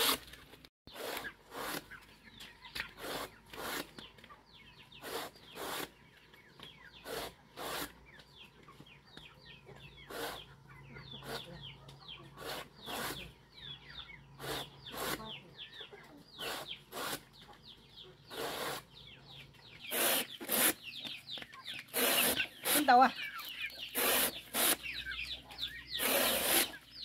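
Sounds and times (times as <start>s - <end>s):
chickens peeping and clucking: 0.0s - 27.0s.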